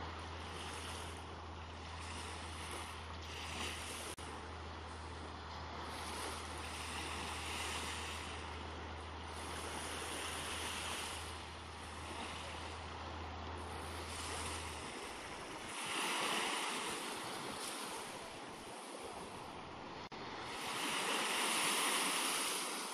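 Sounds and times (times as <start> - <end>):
steady low hum: 0.0 - 22.2
small waves washing on sand: 0.0 - 22.9.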